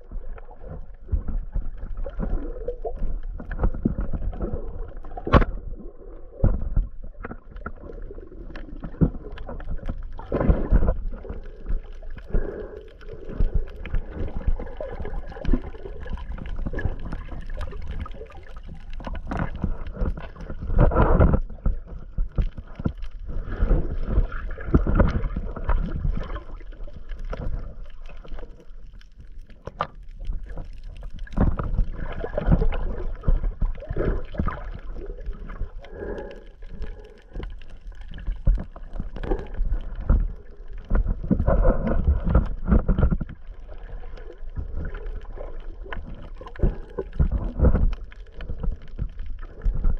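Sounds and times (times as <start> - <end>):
muffled water sloshing and gurgling: 0.0 - 49.9.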